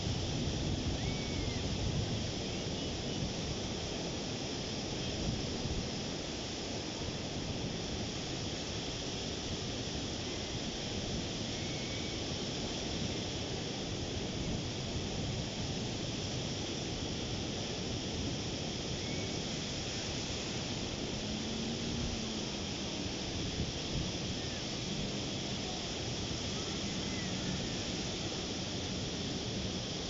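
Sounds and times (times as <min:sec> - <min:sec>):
ocean surf washing up on beach: 0:00.0 - 0:30.0.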